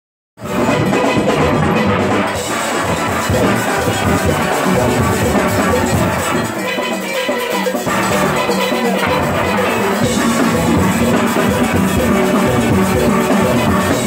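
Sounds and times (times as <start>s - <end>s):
steel orchestra playing: 0.4s - 14.0s.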